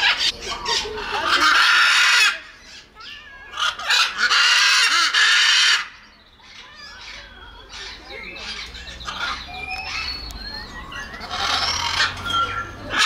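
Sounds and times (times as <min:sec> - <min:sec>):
macaw squawking: 0:00.0 - 0:13.0.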